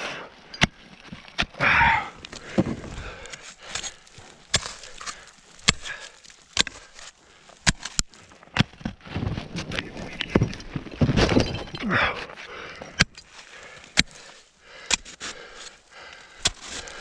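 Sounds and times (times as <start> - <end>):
ice axes striking snow: 0.5 - 17.0.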